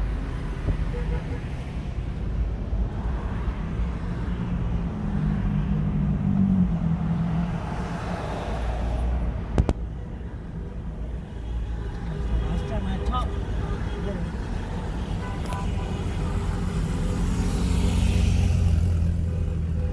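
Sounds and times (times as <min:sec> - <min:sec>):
car engine and road noise: 0:00.0 - 0:19.9.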